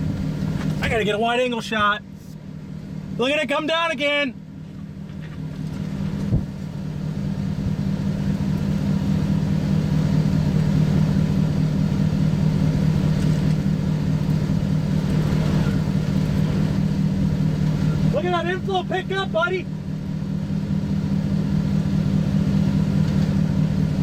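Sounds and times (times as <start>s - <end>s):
car engine hum: 0.0s - 24.0s
road noise: 0.0s - 24.0s.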